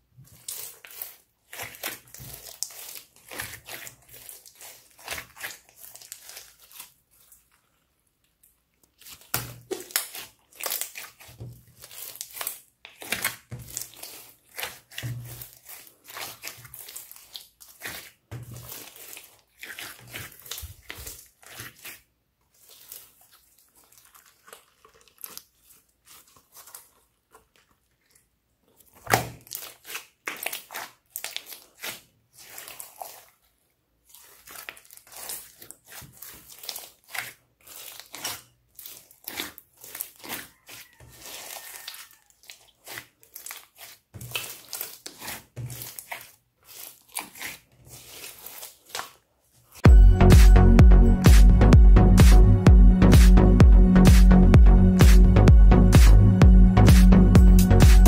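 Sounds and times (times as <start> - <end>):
slime squishing and crackling: 0.0 - 58.0.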